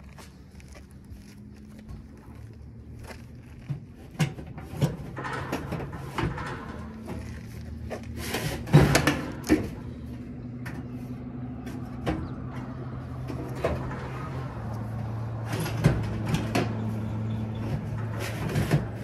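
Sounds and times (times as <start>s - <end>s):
metal clanking on metal: 3.3s - 19.0s.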